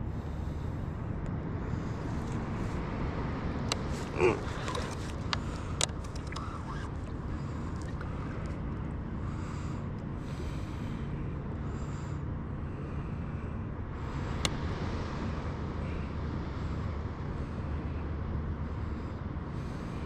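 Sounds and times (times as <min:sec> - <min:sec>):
water and wind rumble: 0:00.0 - 0:20.0.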